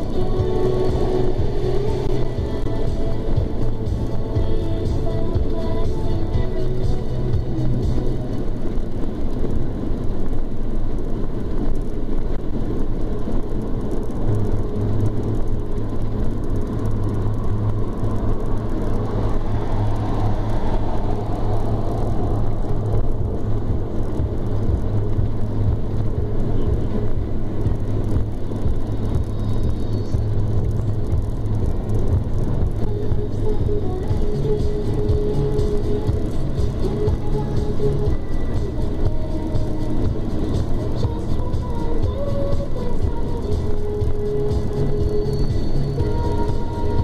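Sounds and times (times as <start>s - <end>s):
car engine and tyre drone: 0.0s - 47.0s
low hum: 0.0s - 47.0s
wind noise: 0.0s - 47.0s.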